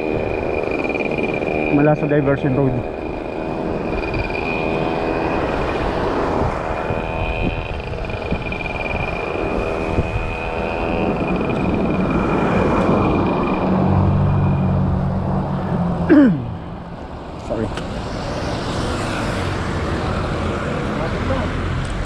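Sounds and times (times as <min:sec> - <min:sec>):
wind noise on microphone: 0:00.0 - 0:16.0, 0:16.6 - 0:22.0
low engine drone: 0:00.0 - 0:22.0
motor vehicles passing: 0:00.0 - 0:22.0.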